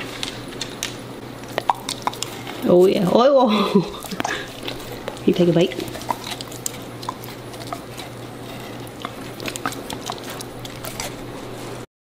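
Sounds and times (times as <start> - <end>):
dog licking and biting watermelon: 1.4 - 11.7.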